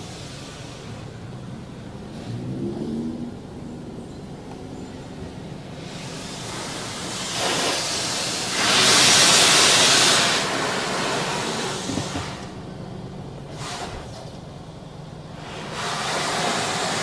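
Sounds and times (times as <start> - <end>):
car wash water spray hissing: 0.0 - 4.0, 4.6 - 17.0.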